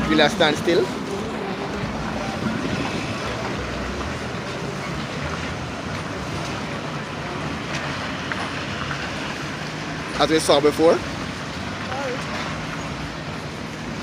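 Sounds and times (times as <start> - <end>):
tyres on the road: 0.0 - 14.0
vehicle engines running: 0.0 - 14.0.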